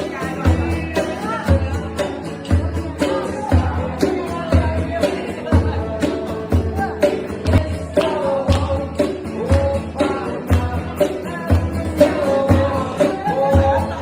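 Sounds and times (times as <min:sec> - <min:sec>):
song with singing over a beat: 0:00.0 - 0:14.0.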